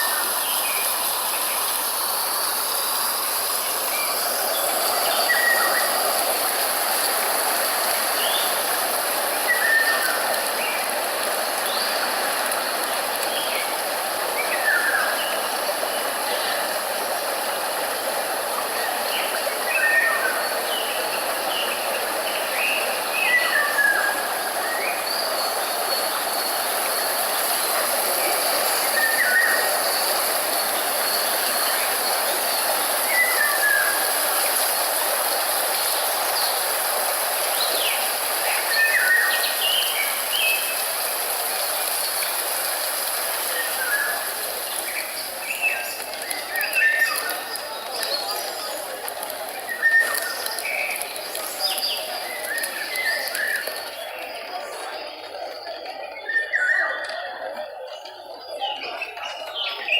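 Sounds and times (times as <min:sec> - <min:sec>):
white noise hiss: 0:00.0 - 0:57.8.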